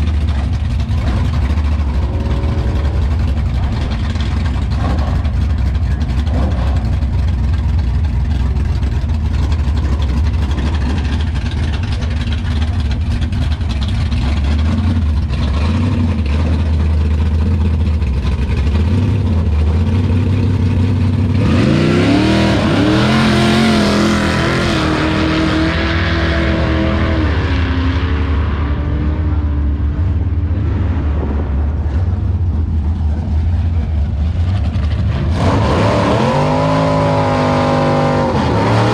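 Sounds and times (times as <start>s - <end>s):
drag cars idling: 0.0s - 25.2s, 29.0s - 35.8s.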